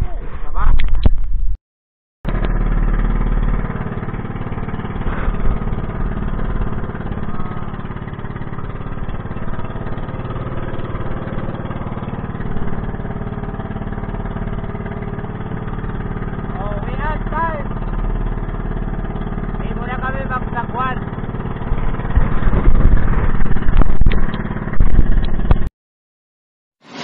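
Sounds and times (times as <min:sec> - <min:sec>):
boat engine running: 0:02.3 - 0:25.7.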